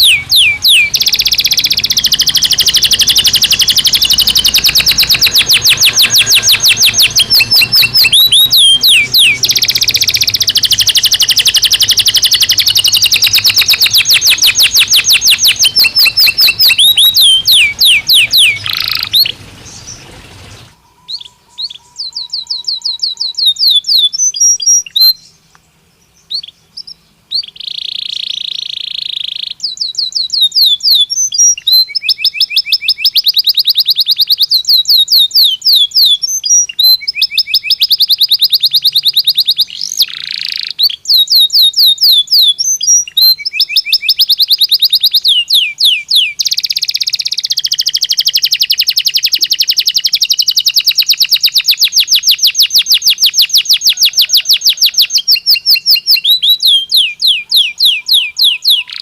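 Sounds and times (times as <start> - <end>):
canary trilling: 0.0 - 25.3, 26.3 - 59.0.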